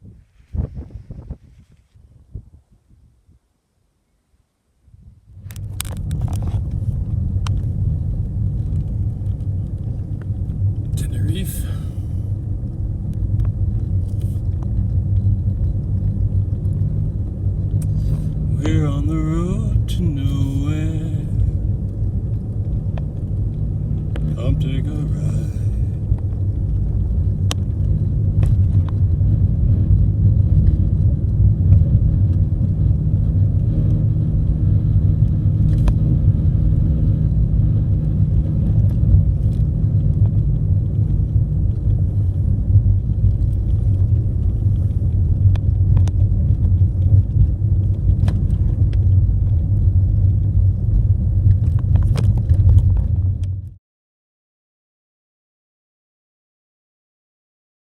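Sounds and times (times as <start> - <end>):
car engine and road rumble: 0.0 - 53.8.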